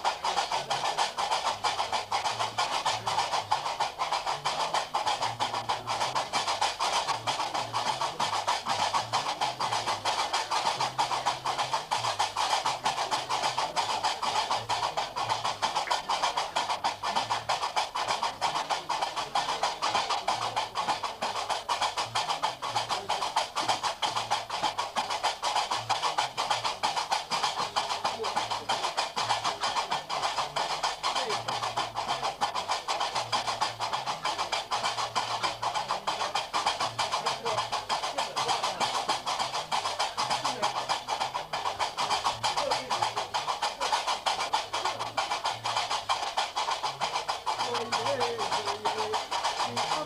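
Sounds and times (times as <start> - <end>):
iron castanets clacking: 0.0 - 50.0.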